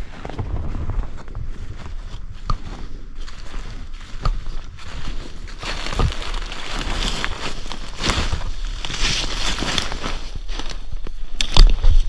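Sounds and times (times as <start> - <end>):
footsteps crunching through leaves: 0.0 - 11.1.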